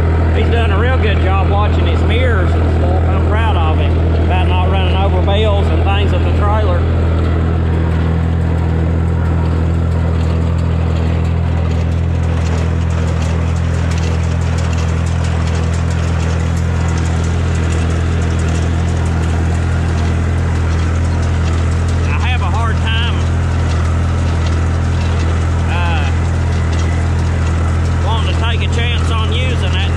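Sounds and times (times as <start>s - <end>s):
baler clattering: 0.0s - 29.9s
tractor engine running: 0.0s - 29.9s.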